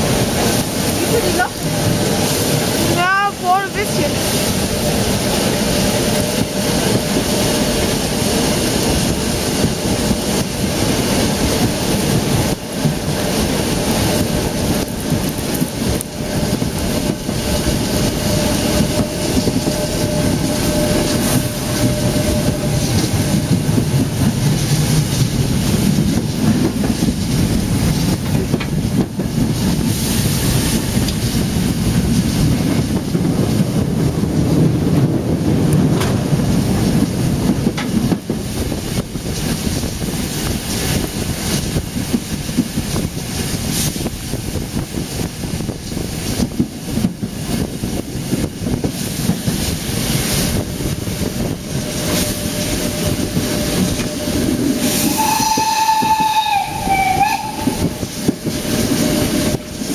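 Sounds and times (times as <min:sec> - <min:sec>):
rail clatter: 0:00.0 - 0:59.9
train running noise: 0:00.0 - 0:59.9.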